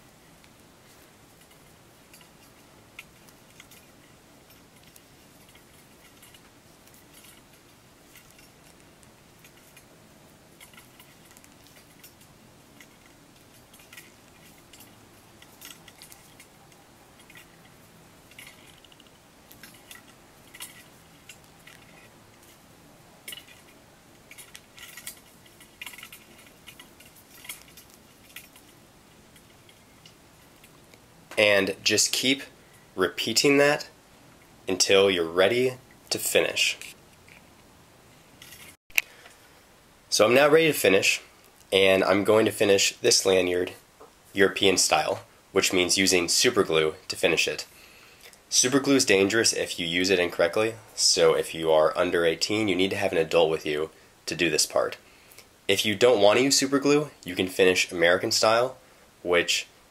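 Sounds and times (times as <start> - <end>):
low hiss: 0.0 - 59.9.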